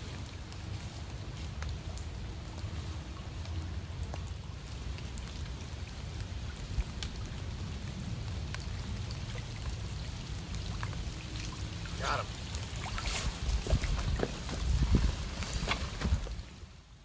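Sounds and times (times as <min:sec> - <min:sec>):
rain drops on pond and leaves: 0:00.0 - 0:17.0.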